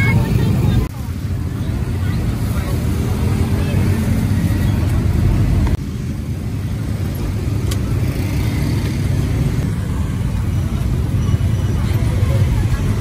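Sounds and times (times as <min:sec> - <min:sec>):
street market rumble: 0:00.0 - 0:13.0.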